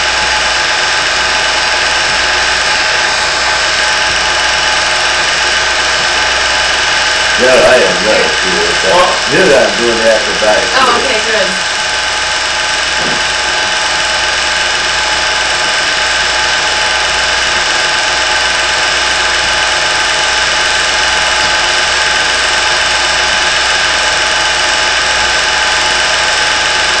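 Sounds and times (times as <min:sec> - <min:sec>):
small motor whirring: 0:00.0 - 0:27.0.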